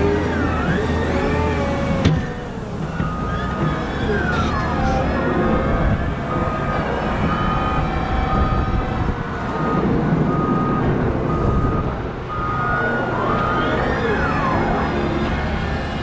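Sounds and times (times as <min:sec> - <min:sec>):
reversing alarm beeping: 0:00.0 - 0:15.5
diesel engine under load: 0:00.0 - 0:16.0.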